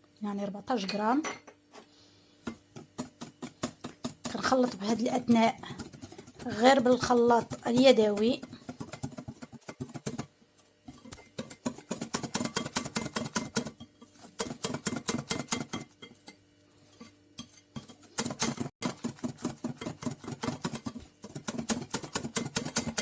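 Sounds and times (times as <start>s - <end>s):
whisk clattering against bowl: 2.5s - 10.3s, 10.9s - 23.0s.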